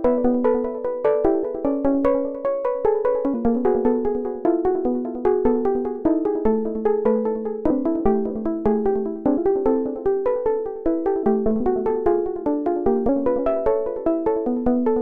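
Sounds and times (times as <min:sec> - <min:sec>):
synthesizer background music: 0:00.0 - 0:15.0.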